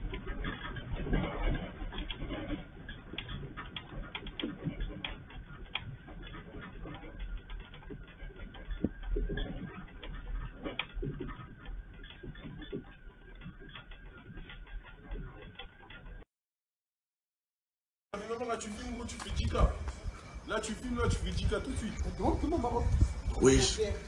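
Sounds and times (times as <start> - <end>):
rapid irregular clicking: 0.0 - 16.3, 18.2 - 24.0.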